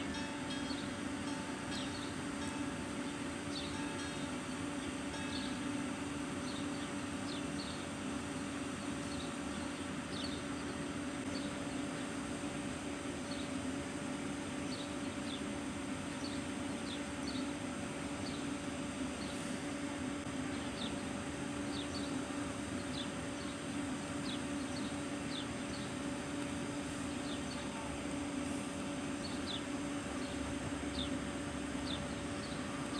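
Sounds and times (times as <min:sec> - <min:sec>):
train humming at idle: 0:00.0 - 0:32.9.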